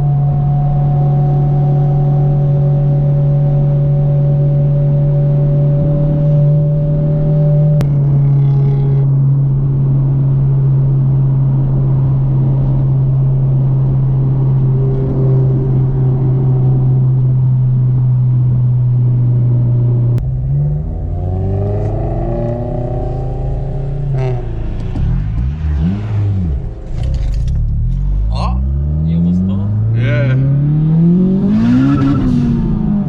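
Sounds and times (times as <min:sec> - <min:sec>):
car engine droning and revving: 0:00.0 - 0:33.0.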